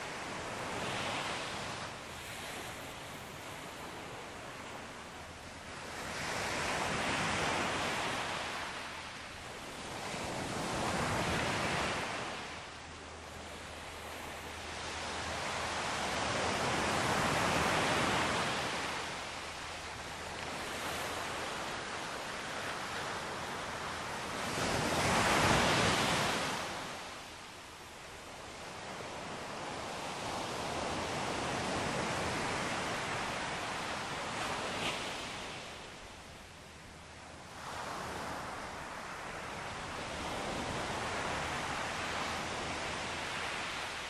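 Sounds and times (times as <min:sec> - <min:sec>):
ocean waves washing ashore: 0:00.0 - 0:44.0.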